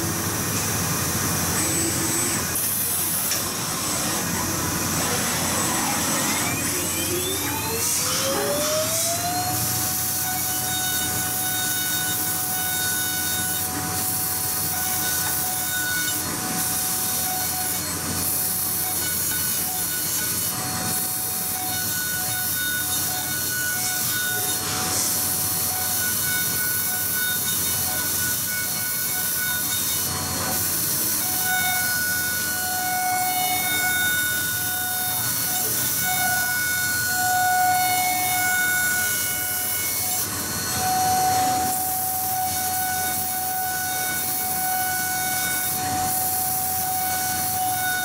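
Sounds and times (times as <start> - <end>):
cutter chipping metal hiss: 0.0 - 48.0.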